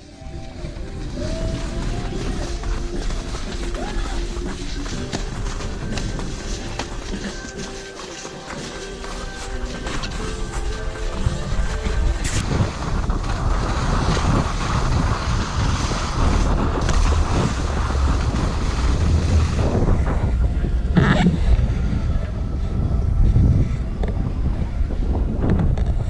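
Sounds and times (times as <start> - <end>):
wind buffeting microphone: 0.0 - 7.6, 9.6 - 26.0.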